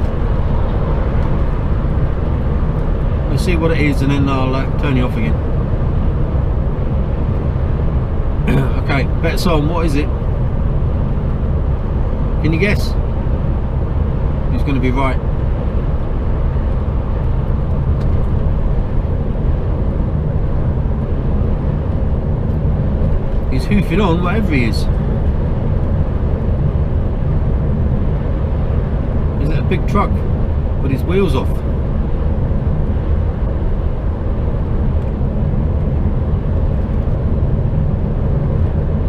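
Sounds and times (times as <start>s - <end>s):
truck engine and tyres rumbling: 0.0s - 39.0s.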